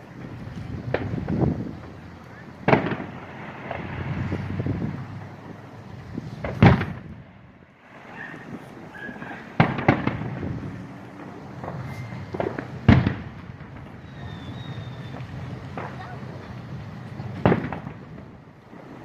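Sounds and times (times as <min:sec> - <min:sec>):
firework crack: 0:00.0 - 0:19.0
fireworks booming: 0:00.0 - 0:19.0.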